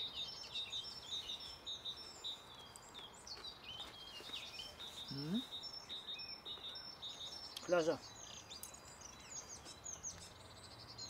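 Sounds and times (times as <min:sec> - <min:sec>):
faint outdoor background noise: 0:00.0 - 0:11.0
songbirds chirping and singing: 0:00.0 - 0:11.0.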